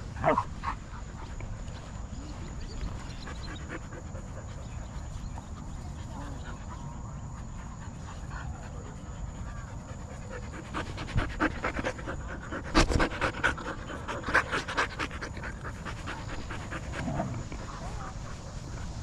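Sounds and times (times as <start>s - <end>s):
dog panting hard and fast: 2.7s - 19.0s.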